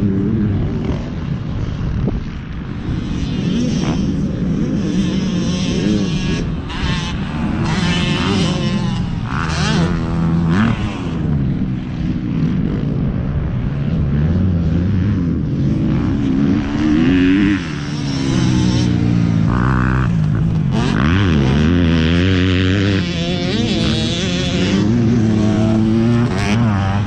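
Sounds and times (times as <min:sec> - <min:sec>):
motorcycle engine revving: 0:00.0 - 0:27.0
wind rush: 0:00.0 - 0:27.0.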